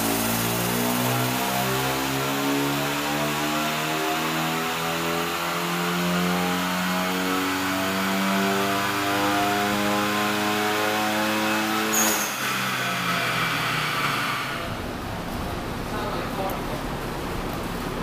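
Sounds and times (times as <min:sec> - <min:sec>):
car engine under full load: 0:00.0 - 0:18.0.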